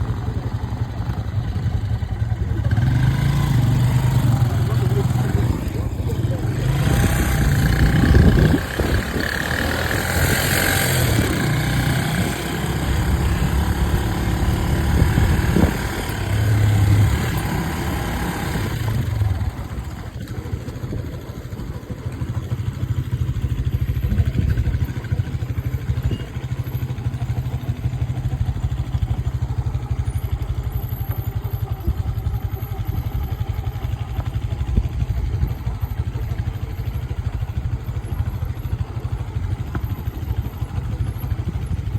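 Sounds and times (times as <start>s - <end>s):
motorcycle engine rumbling: 0.0s - 41.9s.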